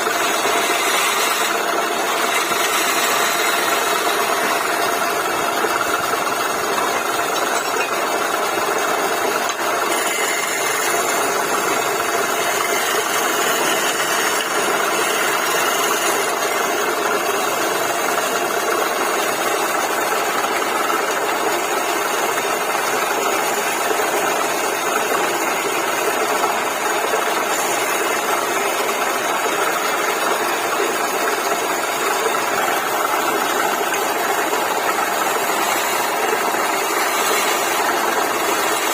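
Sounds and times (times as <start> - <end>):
woodworking lathe running: 0.0 - 38.9.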